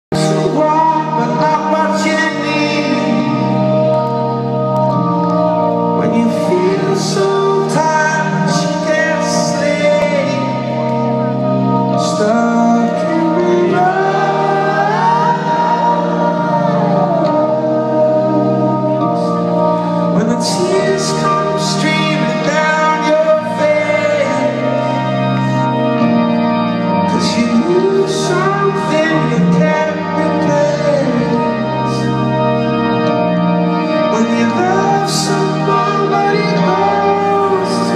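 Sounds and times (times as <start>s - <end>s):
person singing: 0.1s - 4.5s, 6.0s - 11.3s, 11.9s - 26.1s, 27.0s - 32.6s, 34.0s - 37.9s
organ chords: 0.1s - 37.9s.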